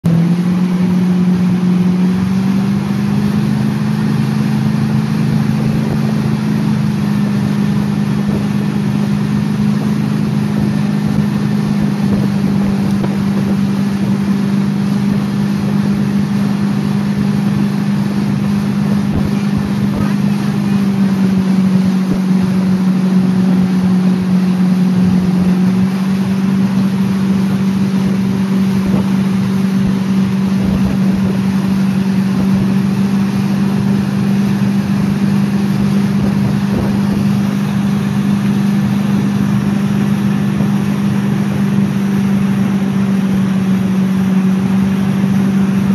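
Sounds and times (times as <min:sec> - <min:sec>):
boat engine running: 0:00.0 - 0:45.9
water and wind hiss: 0:00.1 - 0:45.9.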